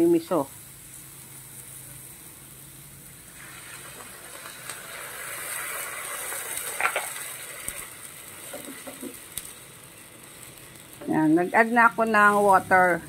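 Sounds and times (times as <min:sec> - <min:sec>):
water sizzling in hot pan: 0:00.0 - 0:13.0.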